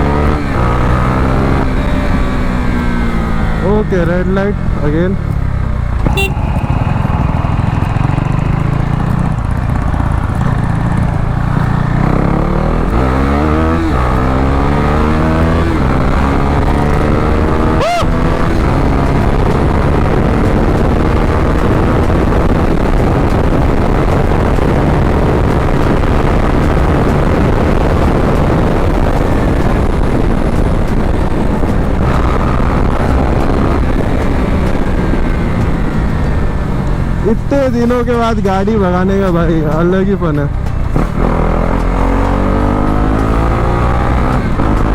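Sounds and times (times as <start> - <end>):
rushing wind: 0.0 - 37.6, 39.5 - 44.9
motorcycle engine accelerating: 0.0 - 44.9
road noise: 0.0 - 44.9.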